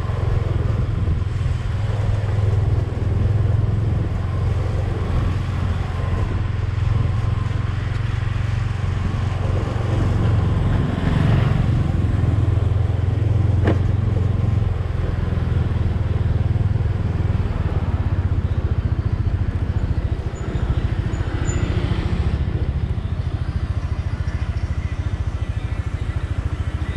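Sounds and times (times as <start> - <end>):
vehicle engine and road rumble: 0.0 - 26.9.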